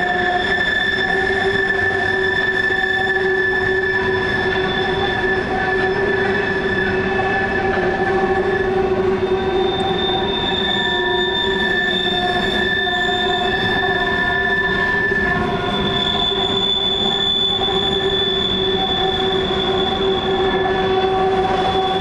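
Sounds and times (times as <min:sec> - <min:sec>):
train wheels squealing on rails: 0:00.0 - 0:22.0.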